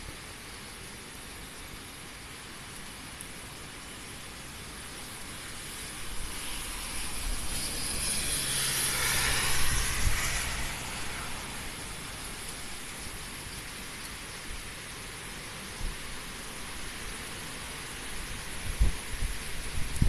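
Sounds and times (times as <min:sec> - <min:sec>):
heavy rain and wind rushing: 0:00.0 - 0:20.0.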